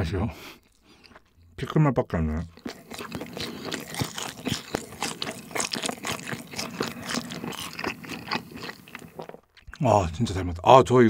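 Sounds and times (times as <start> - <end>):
chewing food with crunches: 0.6 - 10.0.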